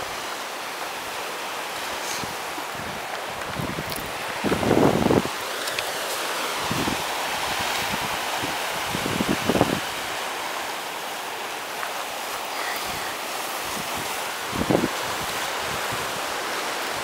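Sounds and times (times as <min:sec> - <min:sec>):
ocean surf over rocks: 0:00.0 - 0:17.0.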